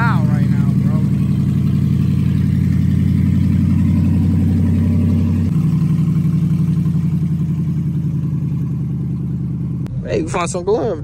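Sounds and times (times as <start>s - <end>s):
loud pickup engine idling: 0.0s - 11.0s.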